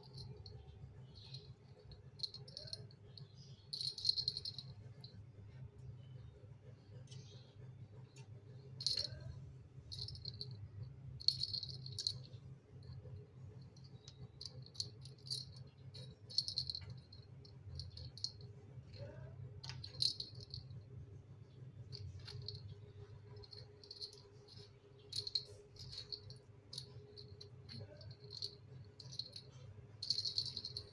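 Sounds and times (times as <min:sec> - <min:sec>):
toy ball rattling on tile floor: 0:00.0 - 0:05.1, 0:08.7 - 0:20.9, 0:21.9 - 0:30.9
low steady hum: 0:00.0 - 0:30.9.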